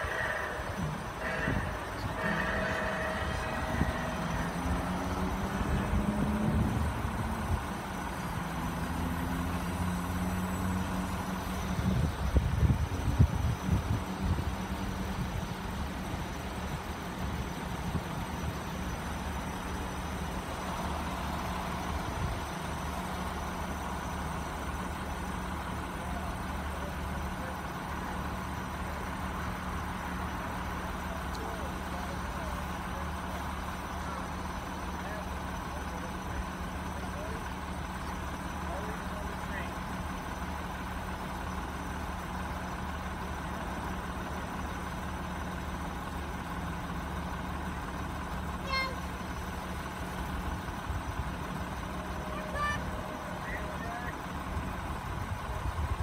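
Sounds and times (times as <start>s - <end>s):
car engines idling: 0.0s - 56.0s.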